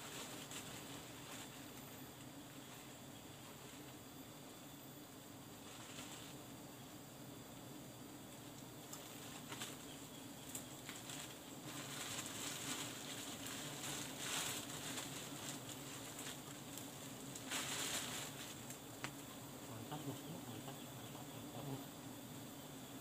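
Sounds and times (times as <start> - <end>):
leaves and branches rustling: 0.0 - 22.4
bees buzzing: 0.0 - 23.0.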